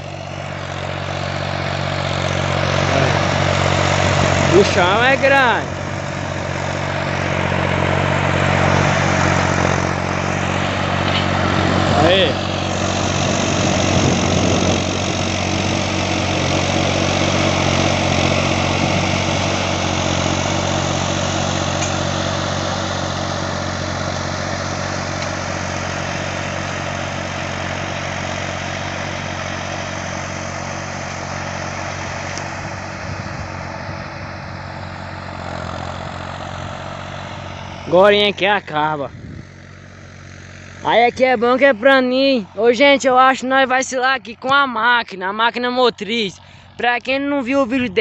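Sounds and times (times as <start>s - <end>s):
disc harrow through soil: 0.0s - 48.0s
tractor diesel engine running: 0.0s - 48.0s.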